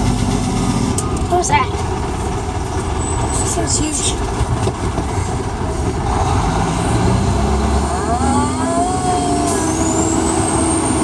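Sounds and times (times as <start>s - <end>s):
rising drivetrain whine: 0.0s - 11.0s
truck engine rumble: 0.0s - 11.0s.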